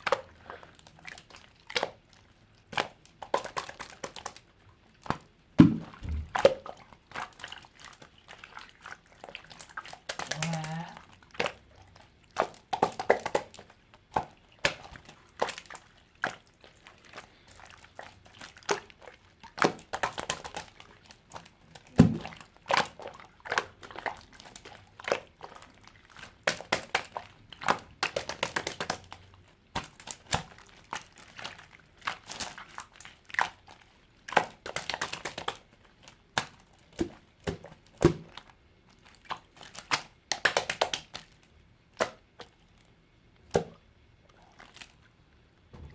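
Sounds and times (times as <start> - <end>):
slime squished by hand: 0.0 - 45.1.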